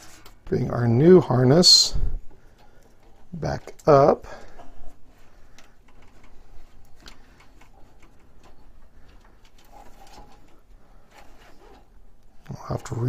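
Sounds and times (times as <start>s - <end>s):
wiring harness rustling: 0.0s - 13.0s
light clicks of cable handling: 2.2s - 12.9s.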